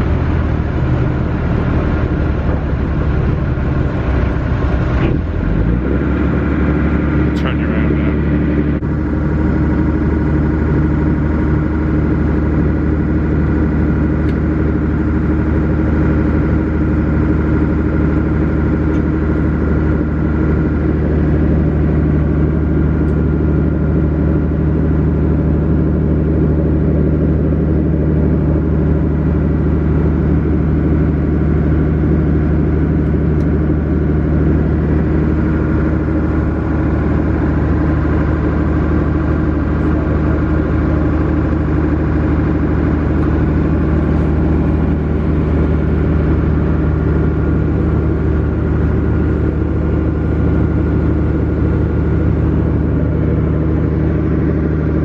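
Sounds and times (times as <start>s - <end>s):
ferry engine droning: 0.0s - 55.0s.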